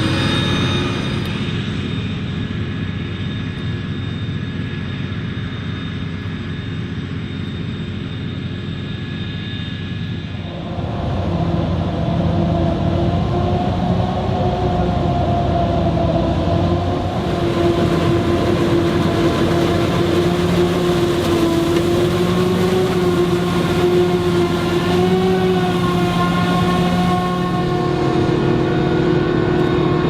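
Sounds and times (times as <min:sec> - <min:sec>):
forage harvester engine drone: 0:00.0 - 0:30.0.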